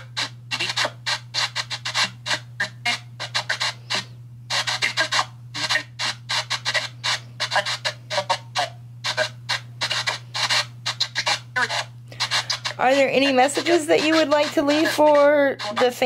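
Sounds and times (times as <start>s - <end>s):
chopped radio static bursts: 0.0s - 16.0s
radio broadcast snippets: 0.0s - 16.0s
steady low hum: 0.0s - 16.0s.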